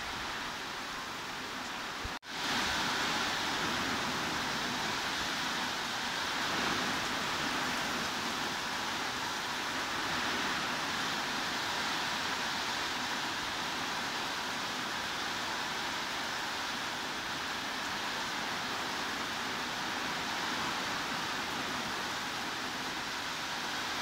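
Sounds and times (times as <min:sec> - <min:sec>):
heavy rain hiss: 0:00.0 - 0:24.0.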